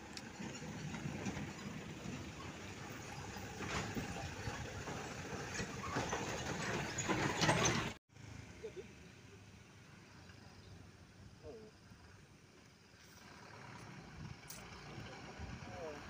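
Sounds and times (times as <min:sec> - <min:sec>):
diesel truck passing: 0:00.0 - 0:16.0
quiet traffic: 0:00.0 - 0:16.0.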